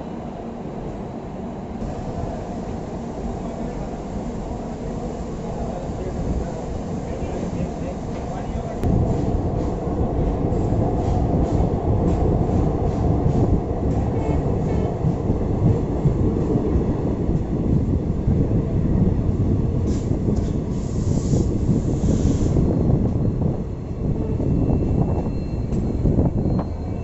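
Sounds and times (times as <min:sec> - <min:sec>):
train wheels rumbling on rail: 0:01.5 - 0:27.0.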